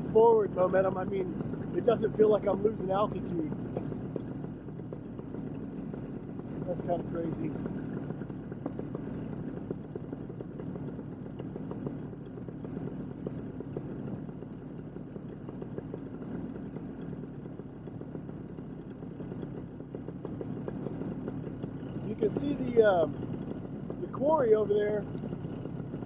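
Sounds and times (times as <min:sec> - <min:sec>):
paramotor engine idling: 0:00.0 - 0:26.0.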